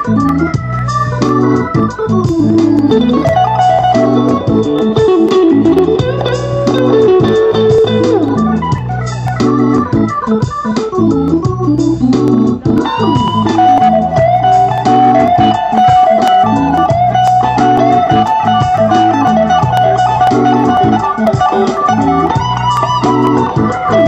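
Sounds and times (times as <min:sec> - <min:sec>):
bass line: 0:00.0 - 0:24.0
electric guitar solo: 0:00.0 - 0:24.0
organ-like keyboard: 0:00.0 - 0:24.0.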